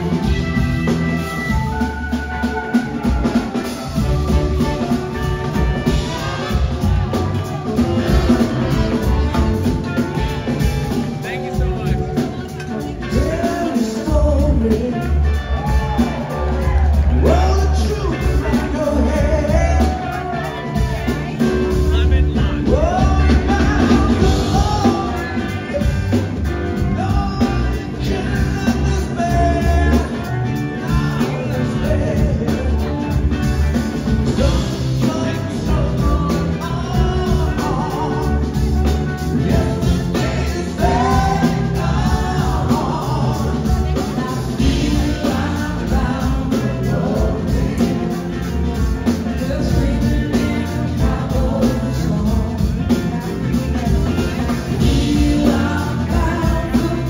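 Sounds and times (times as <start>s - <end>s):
backing singers: 0.0s - 57.0s
bass guitar: 0.0s - 57.0s
drum kit beat: 0.0s - 57.0s
electric guitars: 0.0s - 57.0s
man singing lead: 0.0s - 57.0s.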